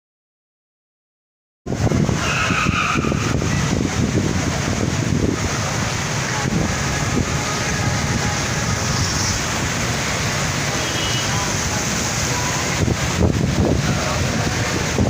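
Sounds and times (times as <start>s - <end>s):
heavy rain: 1.7s - 15.0s
street traffic: 1.7s - 15.0s.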